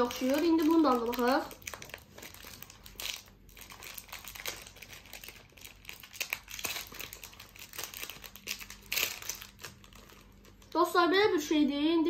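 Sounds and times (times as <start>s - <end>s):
plastic wrapper crinkling and tearing: 0.0s - 10.9s.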